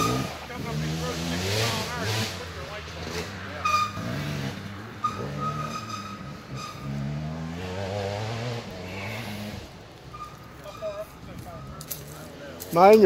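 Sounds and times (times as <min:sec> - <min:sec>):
quad engines revving: 0:00.0 - 0:13.0.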